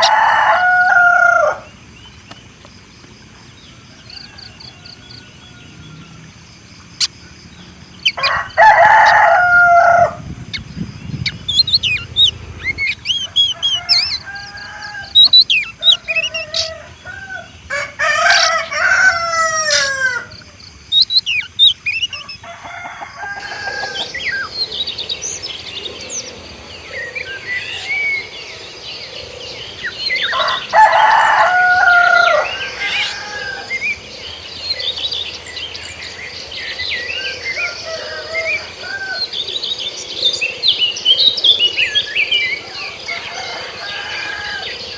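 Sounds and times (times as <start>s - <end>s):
rooster crowing: 0.0s - 1.8s, 3.6s - 6.5s, 8.1s - 10.3s, 11.2s - 20.6s, 22.1s - 26.2s, 26.8s - 34.4s, 36.4s - 44.9s
small birds chirping: 0.0s - 44.9s.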